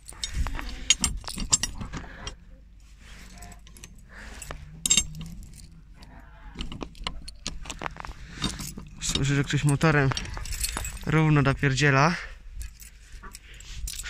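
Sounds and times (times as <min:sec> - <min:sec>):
keys jangling against padlock: 0:00.0 - 0:11.5, 0:12.4 - 0:14.0.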